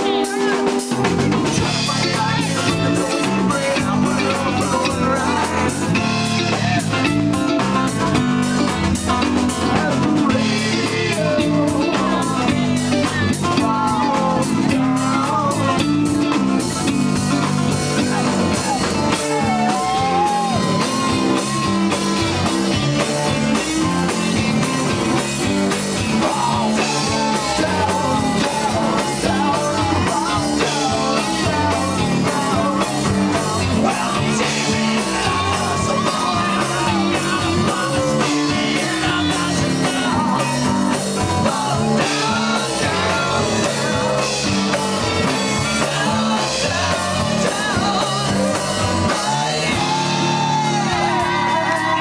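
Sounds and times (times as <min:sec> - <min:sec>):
bass guitar: 0:00.0 - 0:52.0
drum kit steady beat: 0:00.0 - 0:52.0
electric guitars: 0:00.0 - 0:52.0.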